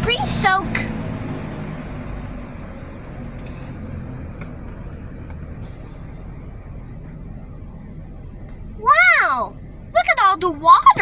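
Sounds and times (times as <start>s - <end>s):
car wash equipment humming: 0.0s - 11.0s.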